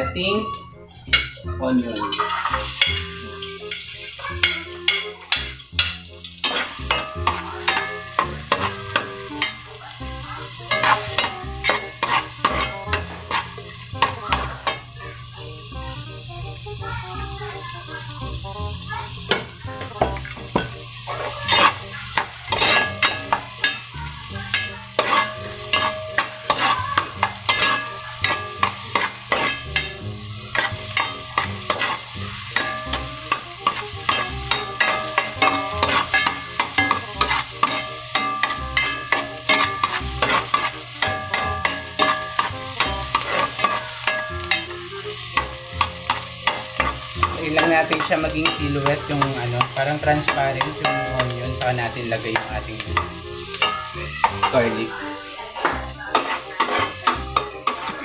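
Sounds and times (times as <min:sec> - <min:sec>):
onions sizzling in hot oil: 0:02.0 - 0:58.0
metal ladle scraping a pot: 0:02.2 - 0:10.0, 0:10.7 - 0:14.8, 0:20.1 - 0:23.9, 0:24.5 - 0:54.9, 0:55.6 - 0:58.0.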